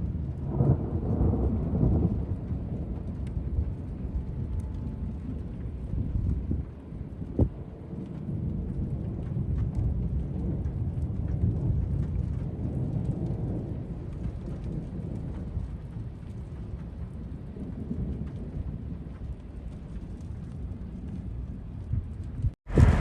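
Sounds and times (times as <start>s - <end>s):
raindrops ticking: 0.0s - 22.3s
thunder rumbling: 0.0s - 23.0s.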